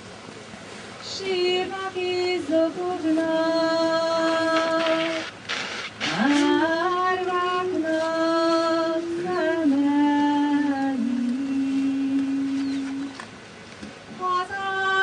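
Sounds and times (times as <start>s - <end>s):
woman singing unaccompanied: 1.0s - 5.3s, 6.0s - 13.3s, 14.1s - 15.0s.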